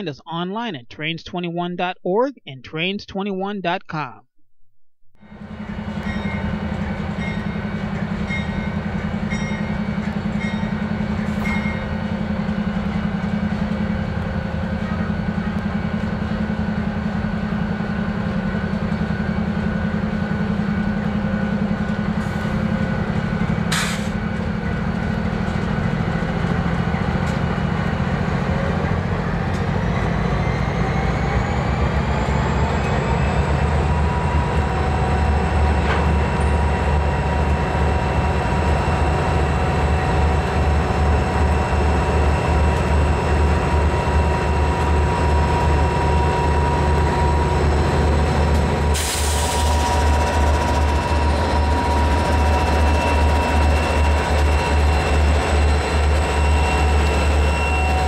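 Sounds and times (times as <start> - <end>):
diesel locomotive engines droning: 5.2 - 58.0.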